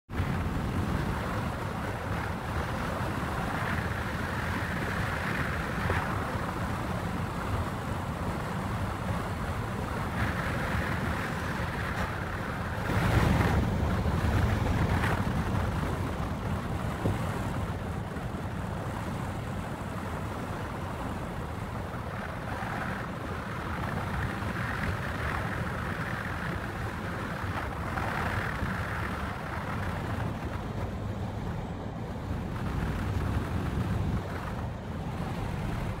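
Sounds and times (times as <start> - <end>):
wind buffeting microphone: 0.1 - 36.0.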